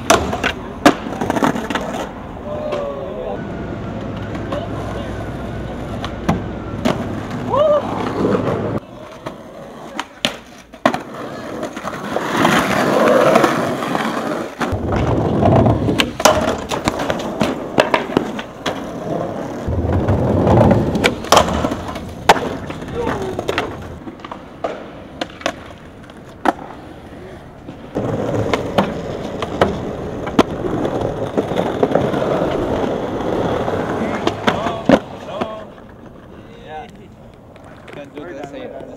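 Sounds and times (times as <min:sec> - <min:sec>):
skateboard clacks: 0:00.0 - 0:03.1, 0:03.8 - 0:38.9
skateboard wheels rolling on concrete: 0:00.0 - 0:38.9.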